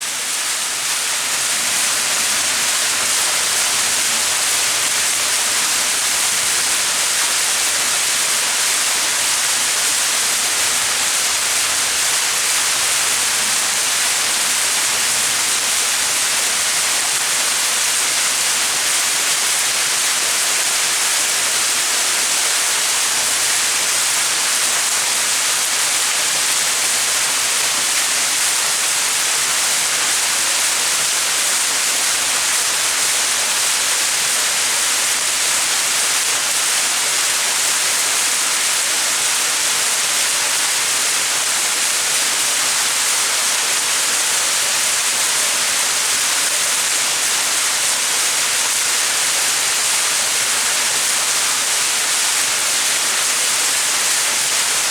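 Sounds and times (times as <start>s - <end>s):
waterfall splashing: 0.1s - 54.9s.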